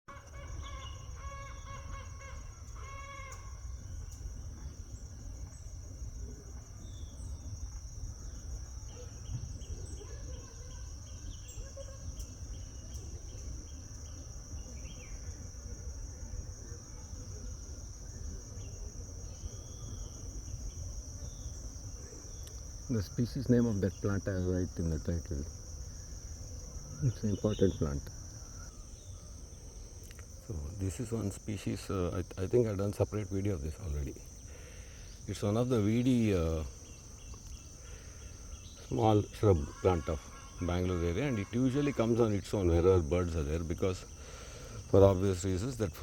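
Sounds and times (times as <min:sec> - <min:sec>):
birds calling: 0:00.1 - 0:46.0
high insect drone: 0:00.1 - 0:46.0.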